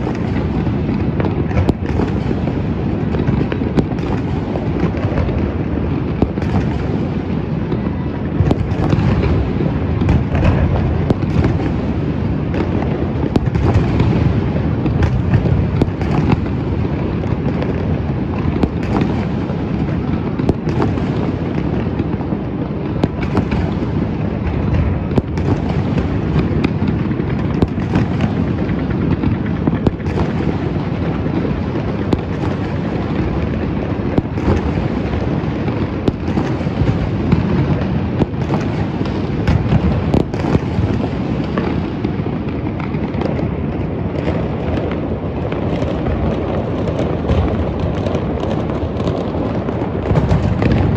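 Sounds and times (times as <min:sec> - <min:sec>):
fireworks rumble and cracks: 0:00.0 - 0:50.9.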